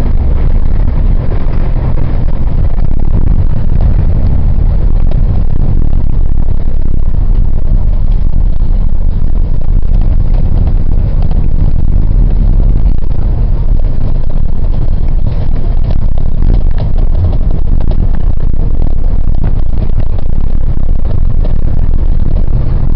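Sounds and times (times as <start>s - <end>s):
vehicle engine and road rumble: 0.0s - 22.9s.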